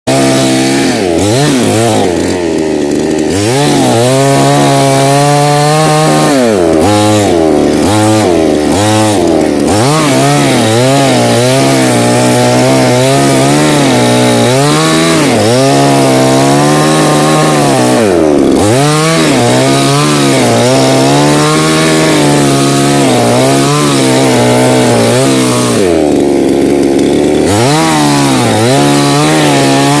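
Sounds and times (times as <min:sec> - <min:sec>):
chainsaw cutting wood: 0:00.1 - 0:30.0.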